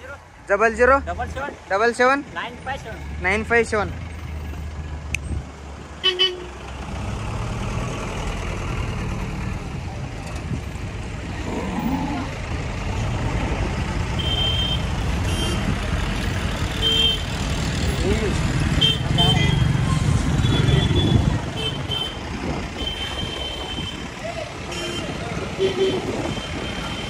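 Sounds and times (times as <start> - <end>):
truck engine rumbling: 0.0 - 27.0.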